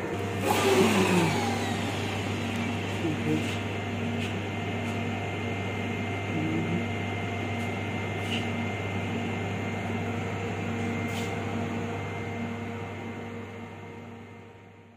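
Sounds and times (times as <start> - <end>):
electrical switchgear hum: 0.0 - 14.9.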